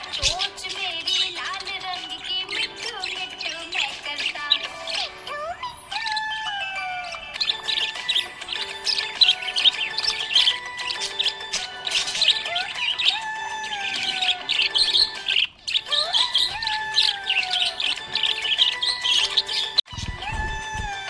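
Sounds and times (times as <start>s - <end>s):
parrots chirping: 0.0s - 21.0s.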